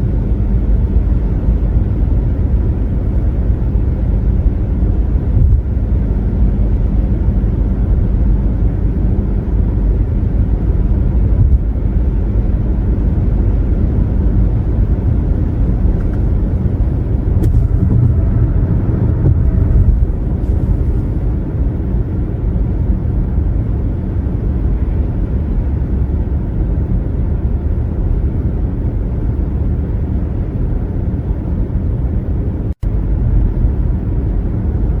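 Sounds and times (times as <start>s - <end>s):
tyre and road noise: 0.0s - 35.0s.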